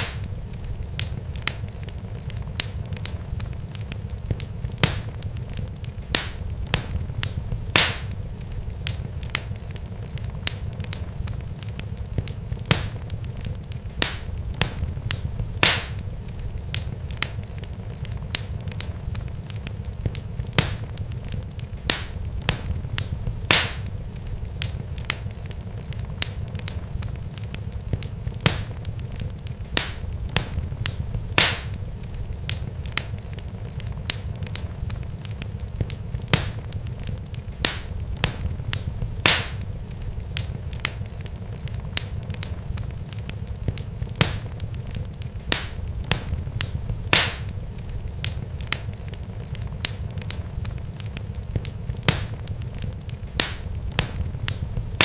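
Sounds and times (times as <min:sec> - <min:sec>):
low steady rumble: 0:00.0 - 0:55.0
sharp crackles and pops: 0:00.0 - 0:55.0.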